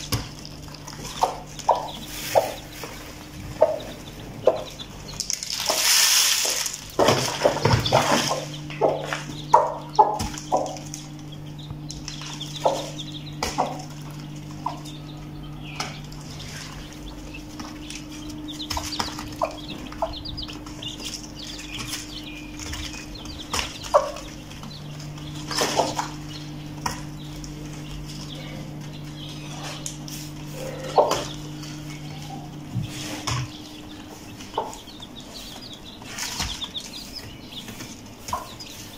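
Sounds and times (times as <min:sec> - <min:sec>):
hen clucking: 0:00.0 - 0:05.9, 0:06.5 - 0:38.9
chicks peeping: 0:00.0 - 0:38.9
low hum: 0:00.0 - 0:38.9.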